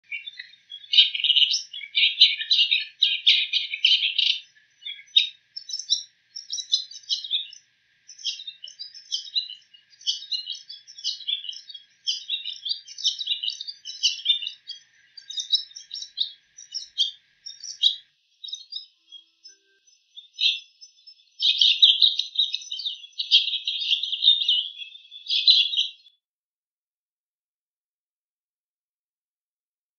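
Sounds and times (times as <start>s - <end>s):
bird singing chattering phrases: 0.0s - 26.1s.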